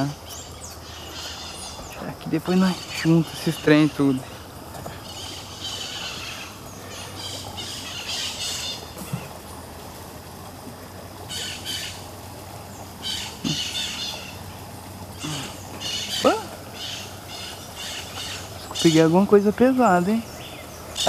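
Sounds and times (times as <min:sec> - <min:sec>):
harsh bird calls: 0:00.0 - 0:21.0
low background hum: 0:00.0 - 0:21.0.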